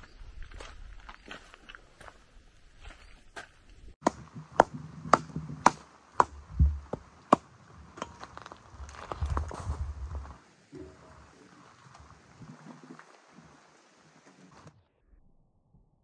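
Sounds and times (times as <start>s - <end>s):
branches rustling: 1.2s - 14.8s.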